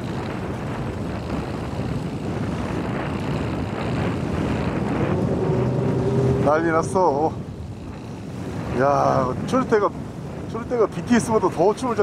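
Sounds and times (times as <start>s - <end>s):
boat engine running: 0.0s - 12.0s
wind and sea rushing: 0.0s - 12.0s.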